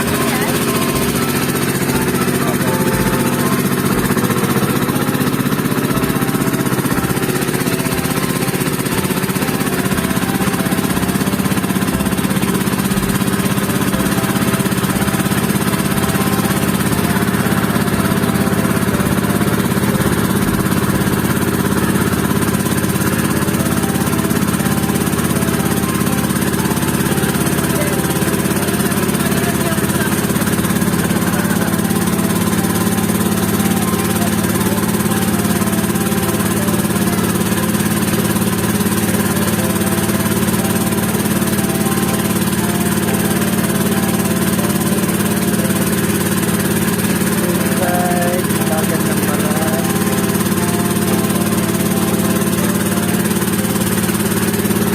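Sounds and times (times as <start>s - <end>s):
motorboat engine running: 0.0s - 54.9s.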